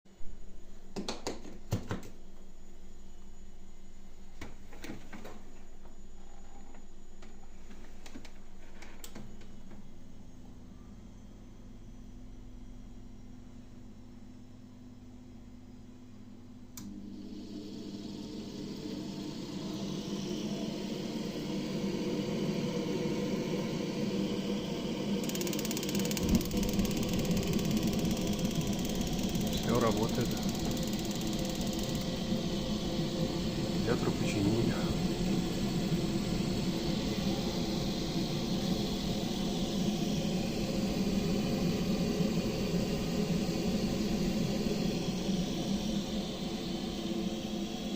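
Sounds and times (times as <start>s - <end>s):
boiler fan whirring hum: 0.1s - 47.9s.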